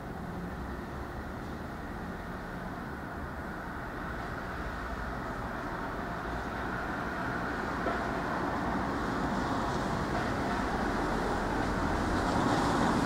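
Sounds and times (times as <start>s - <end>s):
cars driving past on wet road: 0.4s - 13.0s.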